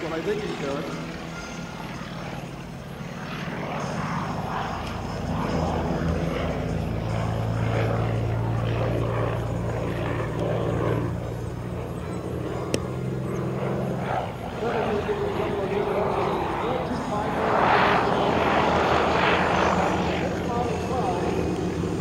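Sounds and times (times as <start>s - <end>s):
propeller plane engine in flight: 0.0s - 22.0s.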